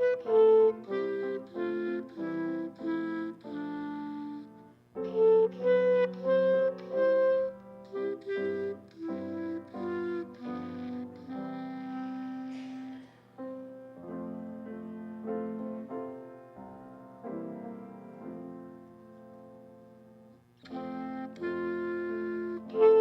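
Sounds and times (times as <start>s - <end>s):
slow quiet piano: 0.0s - 23.0s.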